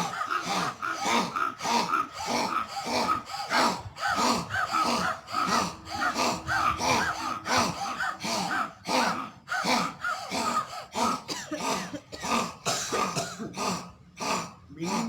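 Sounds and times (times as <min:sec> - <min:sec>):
forceful throaty breath huffs: 0:00.0 - 0:15.0.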